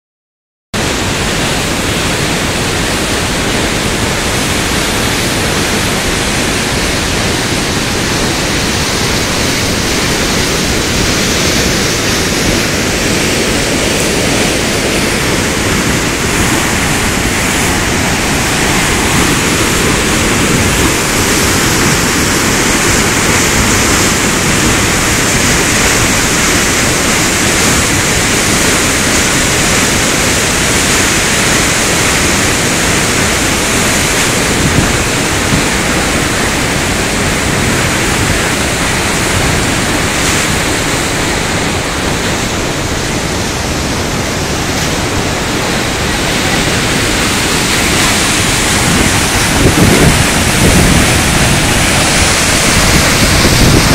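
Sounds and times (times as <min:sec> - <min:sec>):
waterfall rushing onto rocks: 0:00.8 - 0:53.9.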